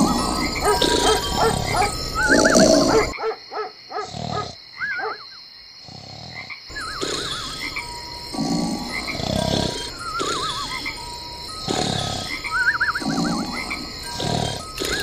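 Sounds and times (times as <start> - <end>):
cartoon snoring: 0.0 - 3.1, 4.0 - 4.6, 5.8 - 15.0.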